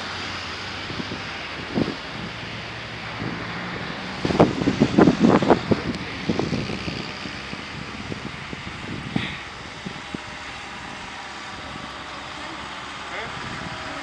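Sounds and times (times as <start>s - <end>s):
tractor engine drone: 0.0s - 14.0s
wind on microphone: 0.7s - 14.0s.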